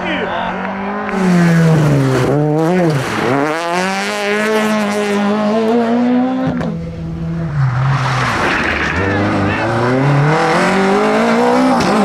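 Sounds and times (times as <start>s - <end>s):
rally car engine accelerating: 0.0s - 12.0s
rally car engine steady: 0.0s - 12.0s.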